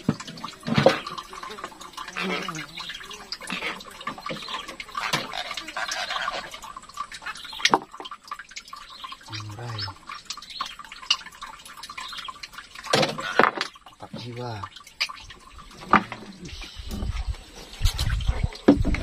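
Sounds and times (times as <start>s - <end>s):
water splashing and dripping: 0.0s - 19.0s.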